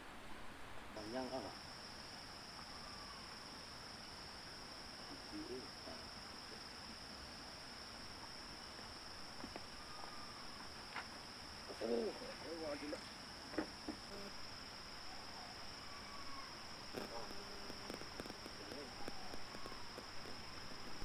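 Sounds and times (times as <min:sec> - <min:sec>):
faint hiss: 0:00.0 - 0:21.0
crickets trilling: 0:00.9 - 0:21.0.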